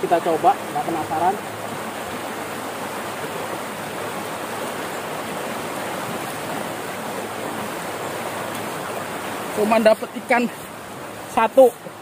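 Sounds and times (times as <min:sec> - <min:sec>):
floodwater rushing into creek: 0:00.0 - 0:12.0.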